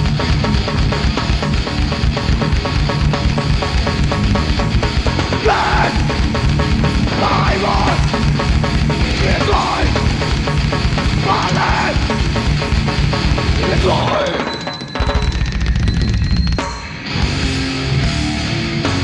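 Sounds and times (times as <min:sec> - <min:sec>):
bright recurring guitar figure: 0:00.0 - 0:19.0
loud heavy hardcore band: 0:00.0 - 0:19.0.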